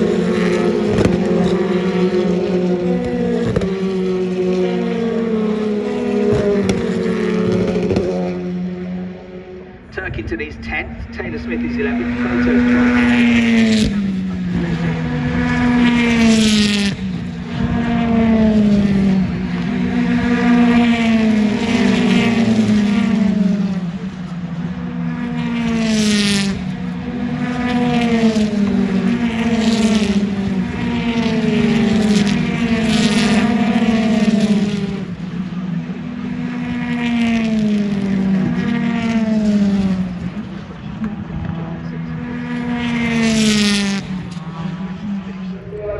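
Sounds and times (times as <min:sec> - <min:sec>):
engine and tyre noise: 0:00.0 - 0:45.9
race cars passing at speed: 0:00.0 - 0:45.9.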